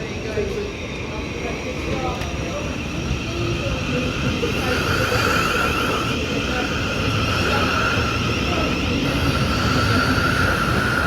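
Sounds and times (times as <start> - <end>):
train high whine: 0.0 - 11.0
train rumbling: 0.0 - 11.0.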